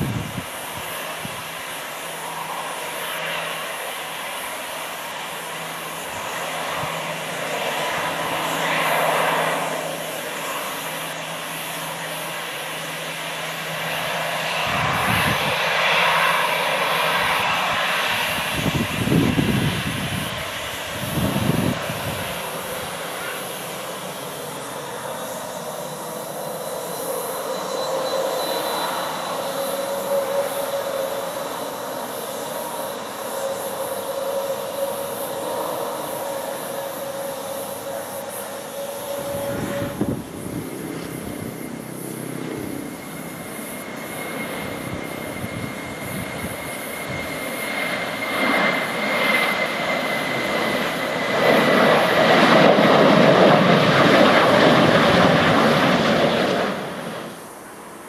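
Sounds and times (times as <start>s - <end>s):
faint rising whine: 0.0s - 51.3s
jet engines at taxi power: 0.0s - 58.0s.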